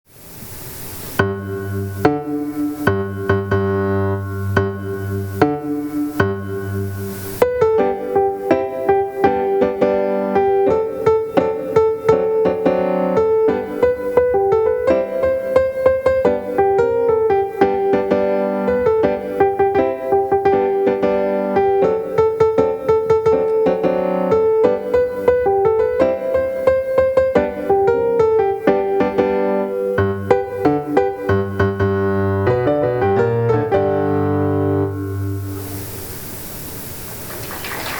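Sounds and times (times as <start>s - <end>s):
solo piano tune: 1.0s - 37.9s.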